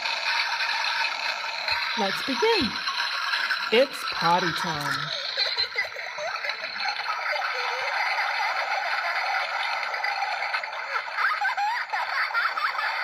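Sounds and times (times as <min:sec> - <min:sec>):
toy toilet-flush sound effect: 0:00.0 - 0:13.0.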